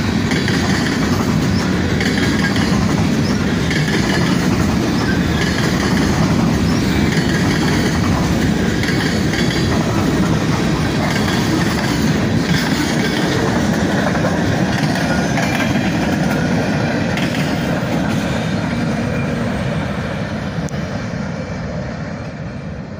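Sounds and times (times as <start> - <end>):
freight train wheels clacking: 0.0 - 21.0.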